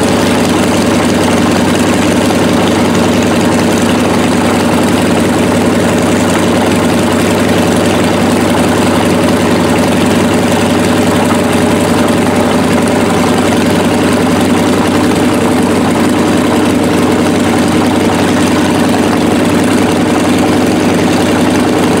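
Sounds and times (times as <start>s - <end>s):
radial aircraft engine idling: 0.0s - 22.0s.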